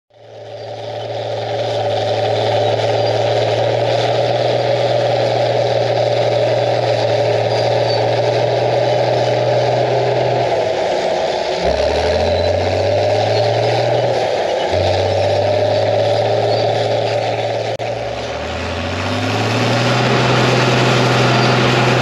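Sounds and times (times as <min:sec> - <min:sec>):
bulldozer engine droning: 0:00.1 - 0:22.0.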